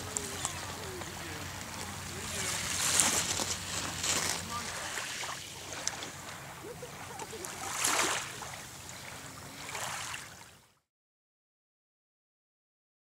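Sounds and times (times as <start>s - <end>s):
waves washing onto pebbles: 0.0s - 10.5s.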